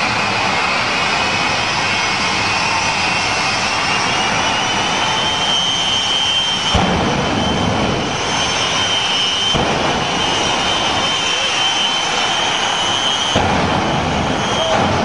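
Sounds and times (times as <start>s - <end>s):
deep rumble: 0.0s - 15.0s
jet engine roaring and whining: 0.0s - 15.0s.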